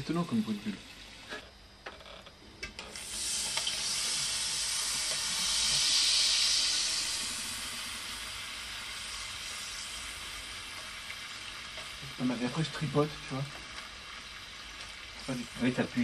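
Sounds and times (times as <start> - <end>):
bubbles fizzing in metal plate: 2.9 - 16.0.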